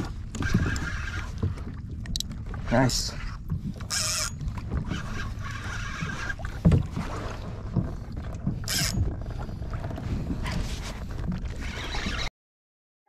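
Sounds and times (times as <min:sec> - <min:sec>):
water slapping against kayak hull: 0:00.0 - 0:12.3
wind rumble on microphone: 0:00.0 - 0:12.3.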